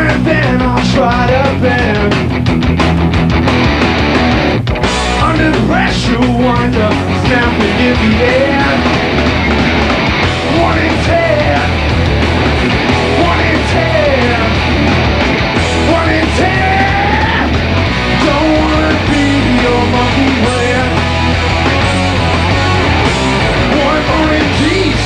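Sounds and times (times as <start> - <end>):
distorted electric guitar lead: 0.0 - 25.0
rock band playing loud: 0.0 - 25.0.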